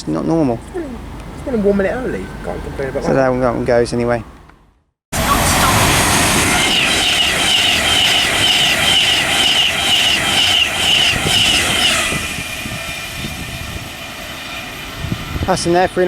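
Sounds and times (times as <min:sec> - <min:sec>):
electric train passing at speed: 0:00.4 - 0:03.9, 0:05.2 - 0:16.0.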